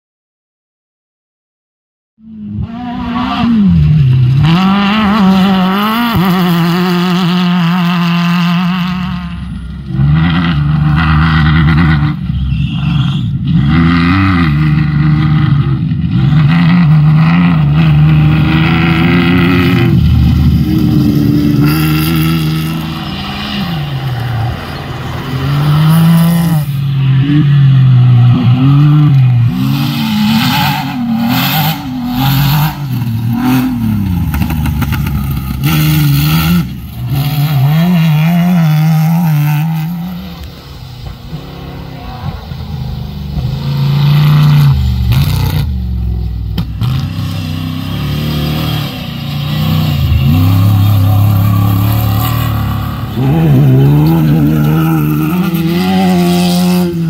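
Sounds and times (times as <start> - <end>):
race buggy engines revving: 2.2 - 57.0.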